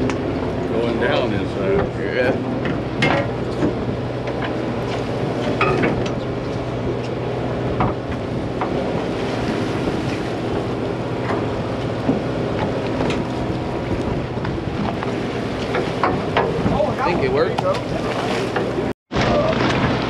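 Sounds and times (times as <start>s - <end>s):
boat engine running: 0.0s - 20.0s
wind buffeting microphone: 0.0s - 20.0s.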